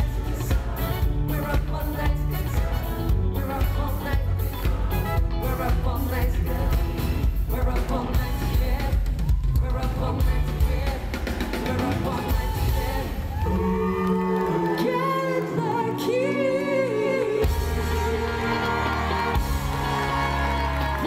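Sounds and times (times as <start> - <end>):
band with steady drum beat: 0.0 - 13.5, 17.4 - 21.0
vocal harmony group singing: 0.0 - 21.0.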